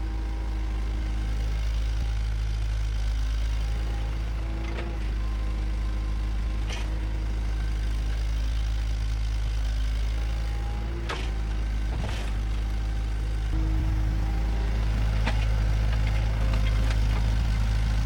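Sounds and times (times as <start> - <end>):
bulldozer diesel engine rumbling: 0.0 - 18.0.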